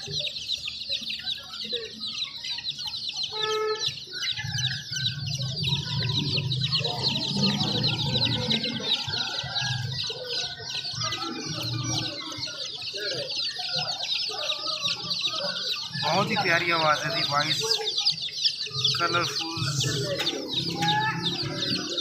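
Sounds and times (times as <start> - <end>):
baby chicks peeping: 0.0 - 22.0.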